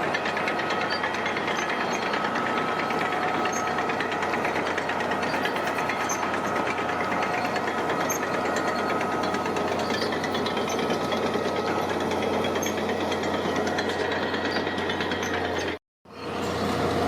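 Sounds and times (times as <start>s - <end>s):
thin steady whine: 0.0s - 15.5s
diesel engine running: 0.0s - 17.0s.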